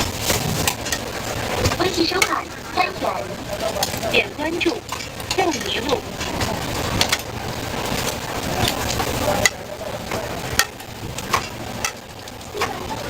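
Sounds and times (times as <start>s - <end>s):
food sizzling: 0.0s - 13.0s.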